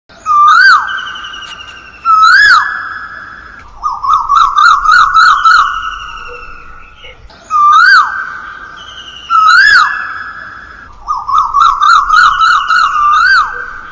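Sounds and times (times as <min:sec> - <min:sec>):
bird warbling trill: 0:00.2 - 0:13.9
bird whistled calls: 0:00.2 - 0:13.9.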